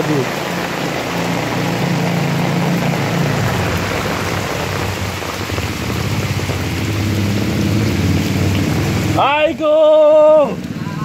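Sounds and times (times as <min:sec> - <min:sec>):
heavy rain on floodwater: 0:00.0 - 0:11.0.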